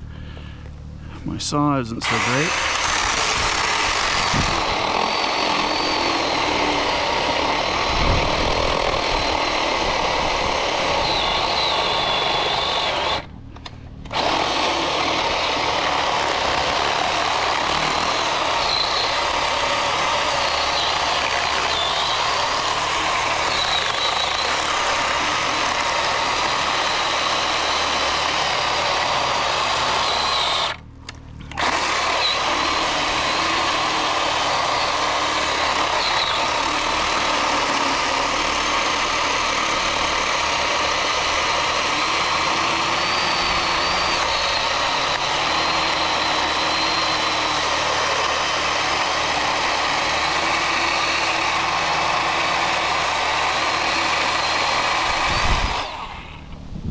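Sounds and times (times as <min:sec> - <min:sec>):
electric chainsaw cutting tree: 0:01.6 - 0:13.3, 0:14.0 - 0:56.7.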